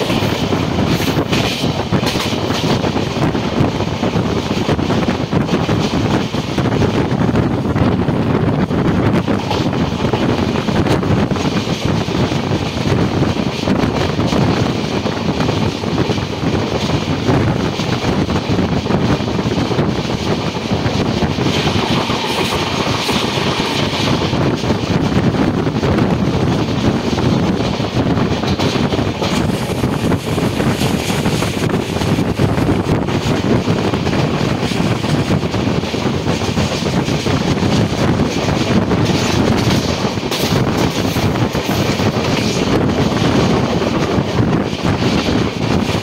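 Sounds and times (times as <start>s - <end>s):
train wheels rumbling on track: 0.0s - 46.0s
wind blowing across microphone: 0.0s - 46.0s.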